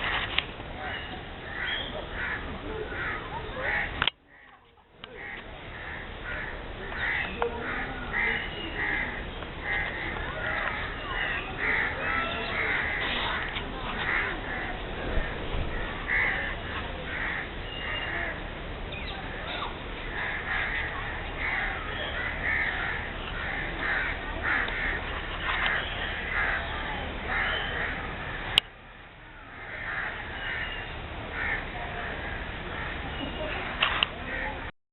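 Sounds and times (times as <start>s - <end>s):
birds calling: 0.0s - 34.7s.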